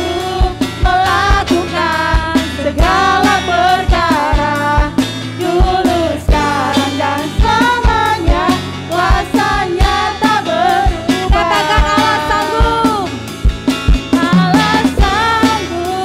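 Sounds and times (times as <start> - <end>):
person singing worship song: 0.0 - 13.2, 14.1 - 16.0
bass: 0.0 - 16.0.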